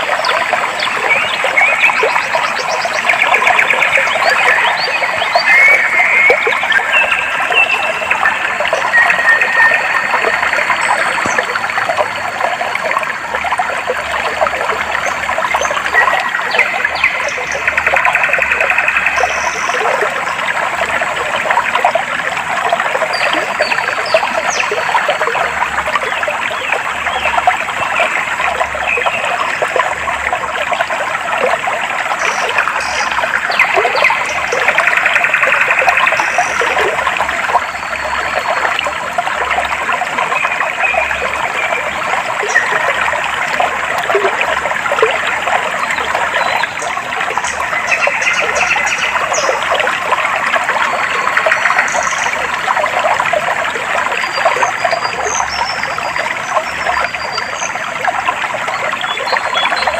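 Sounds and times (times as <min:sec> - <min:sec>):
stream water trickling over stones: 0:00.0 - 0:59.9.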